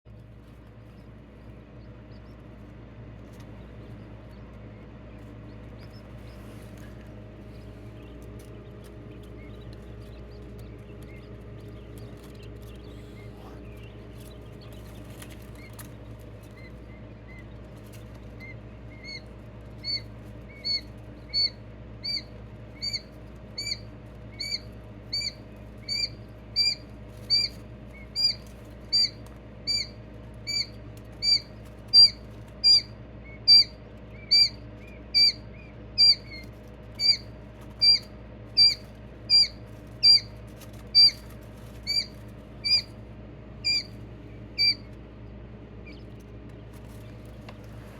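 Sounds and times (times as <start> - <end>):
steady low hum: 0.0 - 47.9
quail chirping: 0.5 - 45.2, 45.8 - 47.9.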